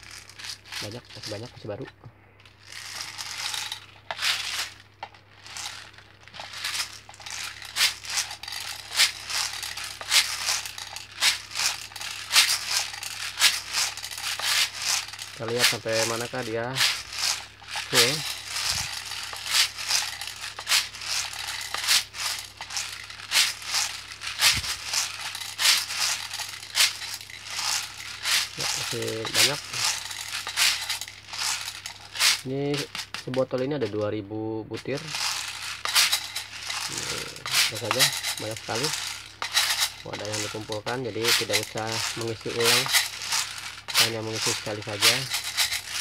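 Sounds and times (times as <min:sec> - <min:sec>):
plastic pellets rattling into magazine: 0:00.0 - 0:01.8, 0:02.4 - 0:34.1, 0:34.8 - 0:46.0.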